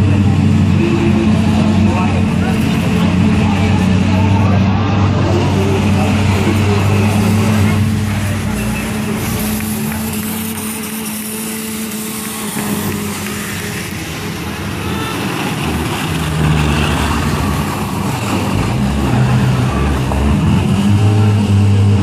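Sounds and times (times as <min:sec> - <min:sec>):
car engines running: 0:00.0 - 0:22.0.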